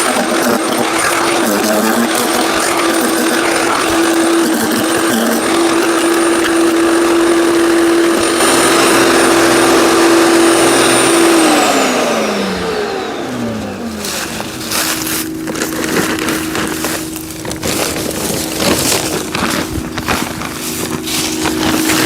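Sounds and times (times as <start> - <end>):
chipper shredding branches: 0.0 - 22.0
wood chipper running: 0.0 - 22.0.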